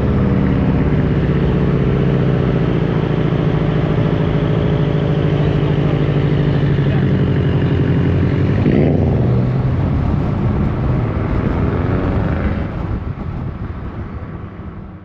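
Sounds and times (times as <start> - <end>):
car exhaust drone: 0.0 - 15.0.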